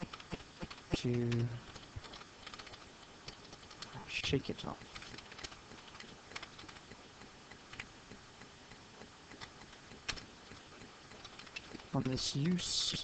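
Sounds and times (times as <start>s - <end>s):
computer keyboard typing: 0.0s - 13.0s.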